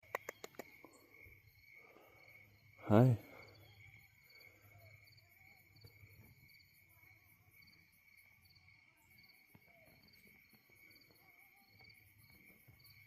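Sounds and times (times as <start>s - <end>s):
crickets chirping: 0.0s - 13.0s
steady high insect trill: 0.0s - 13.0s.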